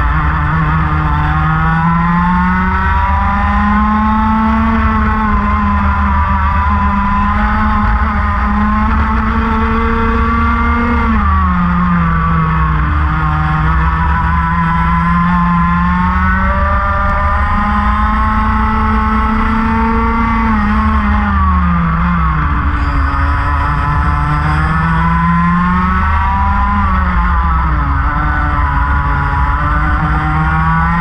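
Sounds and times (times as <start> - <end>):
kart engine revving: 0.0 - 31.0.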